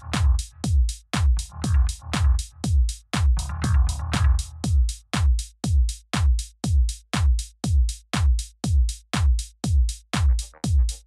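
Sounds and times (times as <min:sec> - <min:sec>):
drum-machine kick beat: 0:00.0 - 0:11.0.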